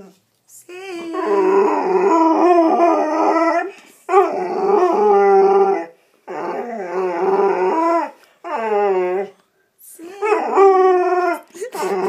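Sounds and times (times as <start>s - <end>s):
dog howling: 1.1s - 9.4s, 10.2s - 12.0s.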